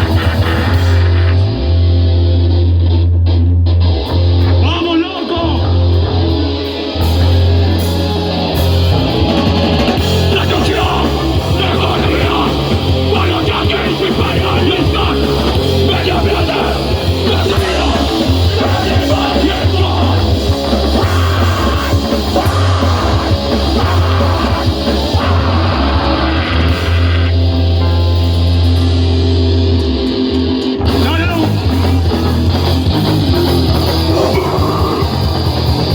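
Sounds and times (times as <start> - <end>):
bass: 0.0 - 35.9
distorted guitar: 0.0 - 35.9
drums: 0.0 - 35.9.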